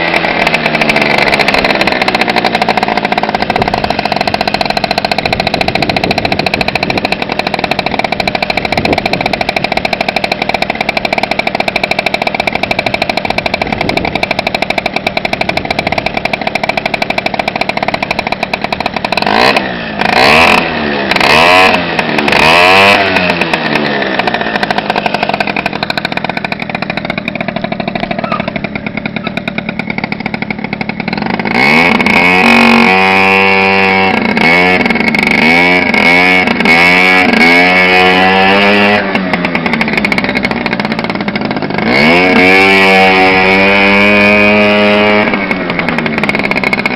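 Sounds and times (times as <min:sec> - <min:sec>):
scooter engine idling and revving: 0:00.0 - 0:46.9.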